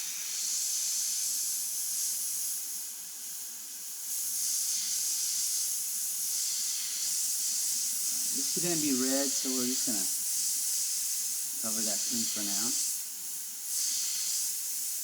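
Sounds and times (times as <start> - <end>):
airbrush spraying: 0.0 - 15.0.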